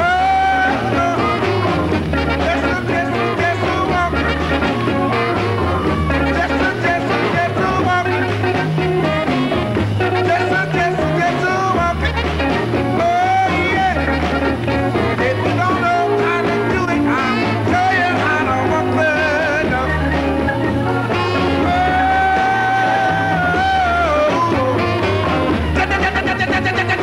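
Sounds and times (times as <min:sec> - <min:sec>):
band with pulsing bass beat: 0:00.0 - 0:27.0
man singing rhythm and blues: 0:00.0 - 0:27.0.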